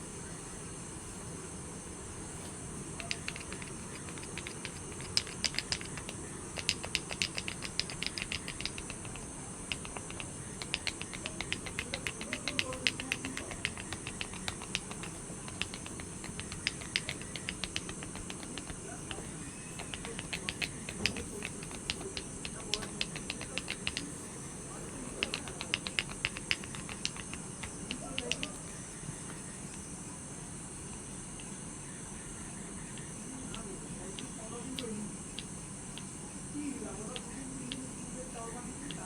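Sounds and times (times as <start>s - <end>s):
wind: 0.0s - 39.0s.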